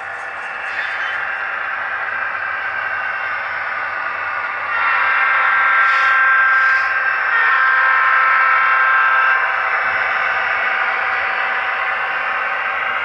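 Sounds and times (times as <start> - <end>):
model diesel locomotive sound: 0.0 - 13.0.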